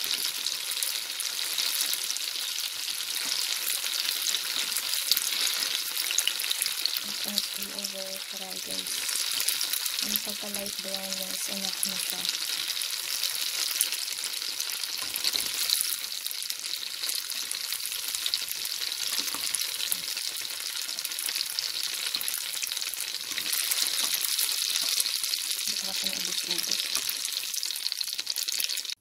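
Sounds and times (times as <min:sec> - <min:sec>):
tofu sizzling in hot oil: 0:00.0 - 0:29.0.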